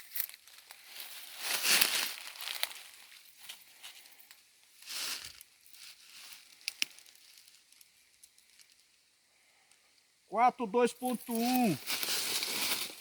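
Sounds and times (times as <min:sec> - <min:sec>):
rustling of dry leaves: 0:00.0 - 0:09.1, 0:11.0 - 0:13.0.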